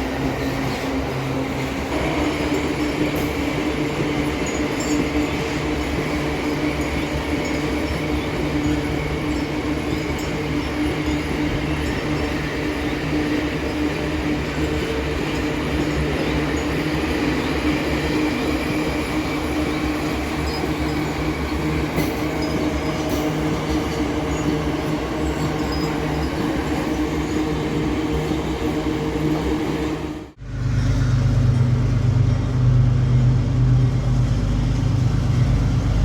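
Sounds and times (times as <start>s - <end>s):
freight train wagons rumbling: 0.0s - 36.0s.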